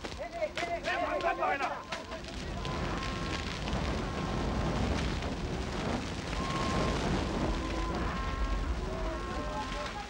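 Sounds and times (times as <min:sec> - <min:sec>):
grass fire crackling: 0:00.0 - 0:10.0.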